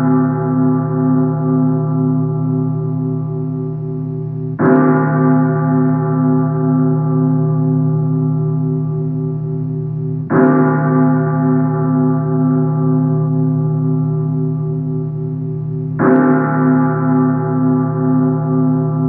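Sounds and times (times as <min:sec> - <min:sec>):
deep church bell tolling: 0:00.0 - 0:19.0.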